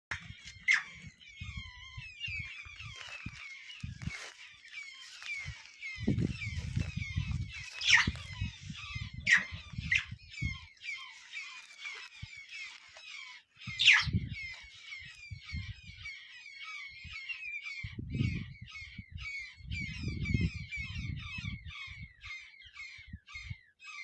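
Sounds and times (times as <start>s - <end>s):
birds chirping and twittering: 0.1s - 24.0s
sharp bird calls: 0.1s - 24.0s.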